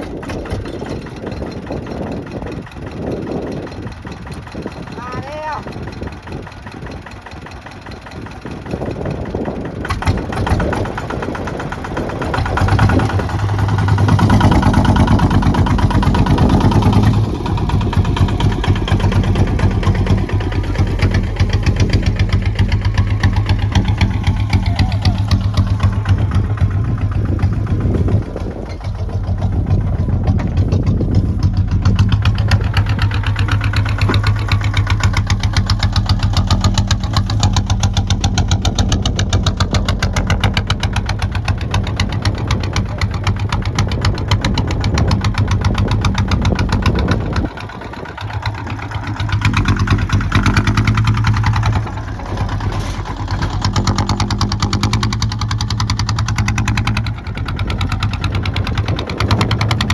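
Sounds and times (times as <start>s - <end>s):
tractor diesel engine chugging: 0.0s - 59.9s.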